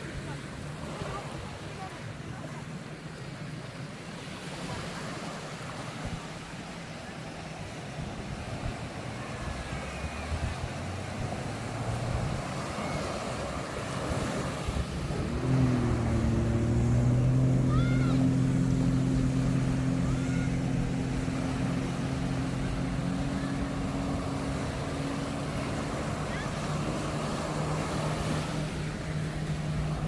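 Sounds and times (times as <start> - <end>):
surf washing: 0.0 - 30.0.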